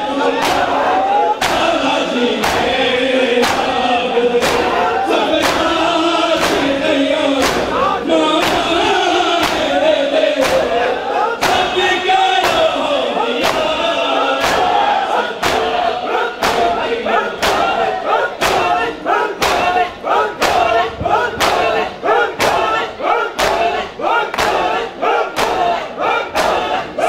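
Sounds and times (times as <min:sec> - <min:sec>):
crowd of men chanting: 0:00.0 - 0:27.0
palms striking chests in unison: 0:00.3 - 0:27.0.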